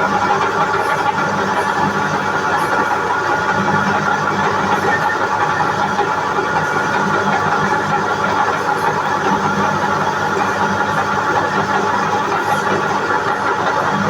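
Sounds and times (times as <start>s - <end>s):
metal lathe humming and whining: 0.0s - 14.0s.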